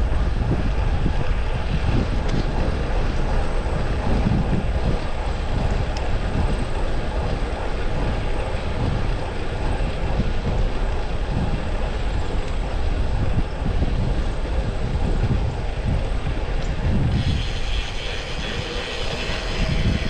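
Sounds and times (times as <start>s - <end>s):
bike tyre and road noise: 0.0s - 20.0s
wind on microphone: 0.0s - 20.0s.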